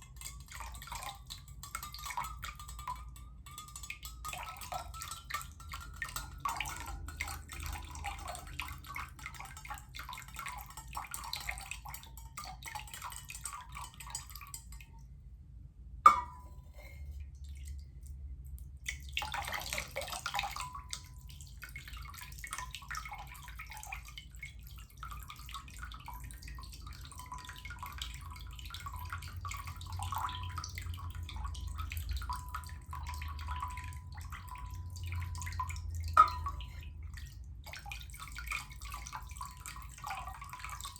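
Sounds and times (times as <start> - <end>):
water trickling and dripping: 0.0 - 15.2, 16.1 - 40.9.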